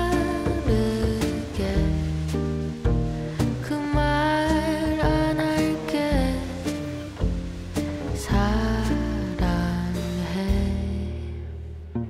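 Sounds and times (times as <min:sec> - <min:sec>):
mellow background music: 0:00.0 - 0:12.0.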